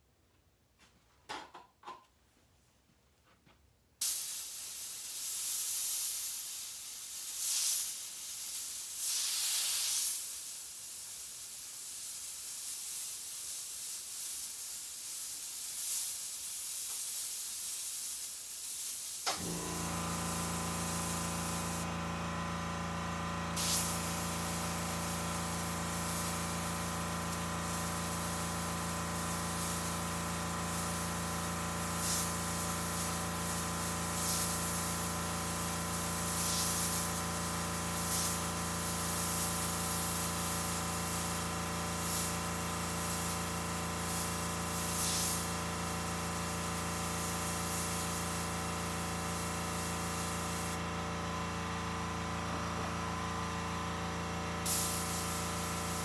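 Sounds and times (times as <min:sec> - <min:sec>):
airbrush spraying hiss: 0:04.0 - 0:22.0, 0:23.5 - 0:50.8, 0:54.6 - 0:56.0.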